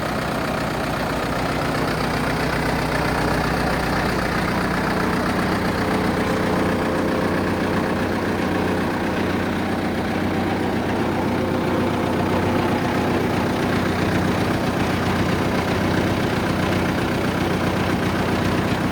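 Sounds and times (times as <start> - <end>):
tractor engine idling: 0.0 - 18.9.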